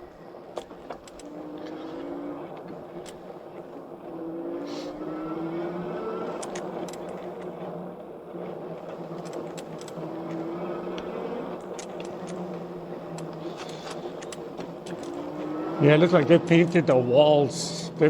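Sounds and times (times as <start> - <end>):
e-bike tyre and motor noise: 0.0 - 18.0
wheels clicking and rattling over cracks: 0.0 - 18.0.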